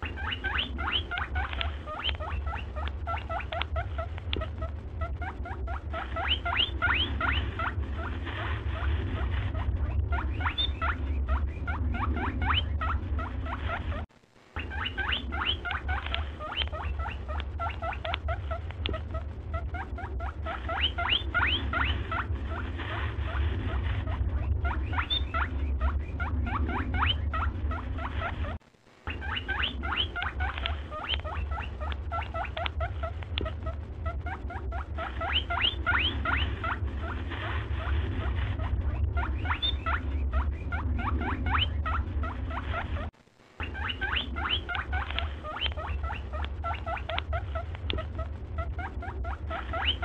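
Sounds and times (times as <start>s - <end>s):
rapid high chirping squeaks: 0.0s - 50.0s
steady low hum: 0.0s - 50.0s.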